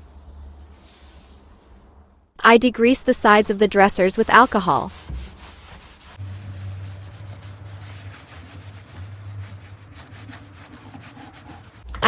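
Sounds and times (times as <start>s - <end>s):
cloth rubbing on wood: 0.0s - 1.9s, 3.4s - 11.9s.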